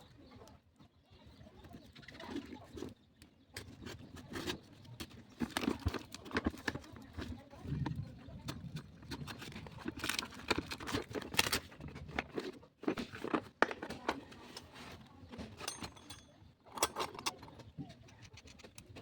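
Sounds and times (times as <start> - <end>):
small hard objects clicking and knocking: 1.6 - 14.7, 15.3 - 19.0.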